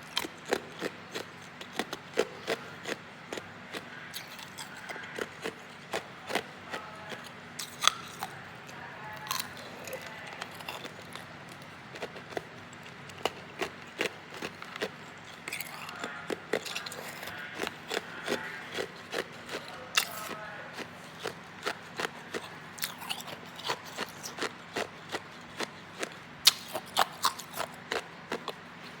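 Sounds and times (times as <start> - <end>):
ice being chewed: 0.0 - 29.0.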